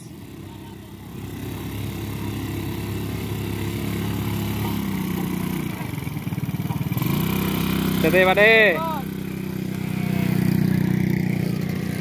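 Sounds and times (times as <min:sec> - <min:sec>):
small motorcycle engine under load: 0:00.0 - 0:12.0.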